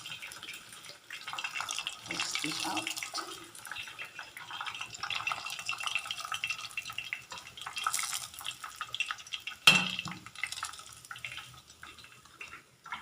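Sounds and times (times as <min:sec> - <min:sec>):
food crackling in frying oil: 0:00.0 - 0:13.0.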